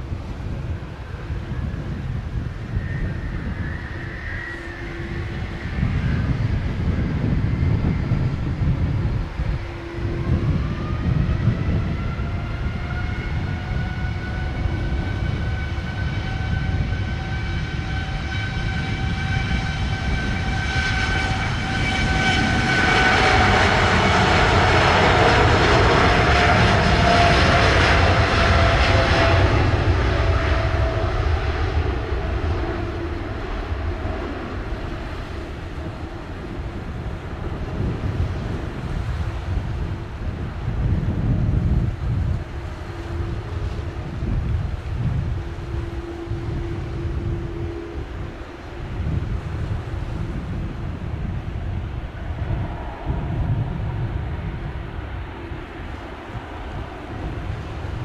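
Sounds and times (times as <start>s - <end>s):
loud jet roar: 0.0s - 58.0s
jet engines spooling up: 0.3s - 58.0s.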